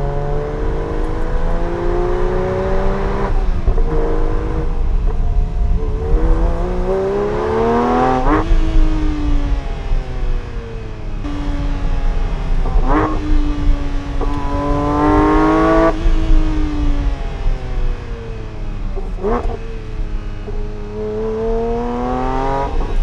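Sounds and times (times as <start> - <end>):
sports car engine revving: 0.0 - 23.0.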